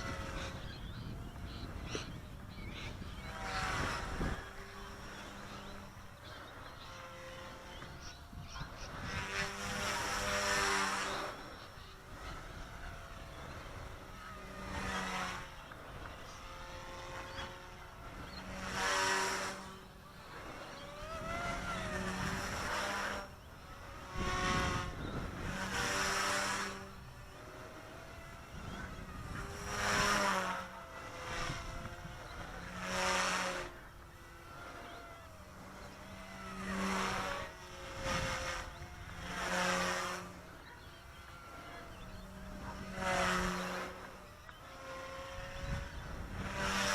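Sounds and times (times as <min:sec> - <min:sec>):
rc helicopter motor whine: 0:00.0 - 0:46.9.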